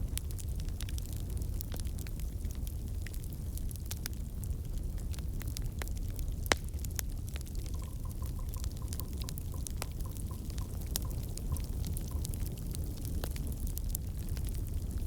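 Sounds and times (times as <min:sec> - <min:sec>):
campfire crackling and popping: 0:00.0 - 0:15.0
low rumble of burning wood: 0:00.0 - 0:15.0.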